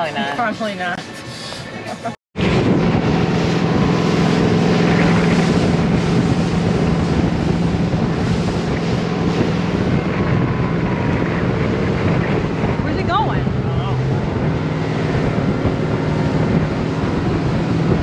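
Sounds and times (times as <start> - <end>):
motorboat engine droning: 0.0 - 18.0
water rushing past hull: 2.4 - 18.0
wind buffeting microphone: 2.4 - 18.0.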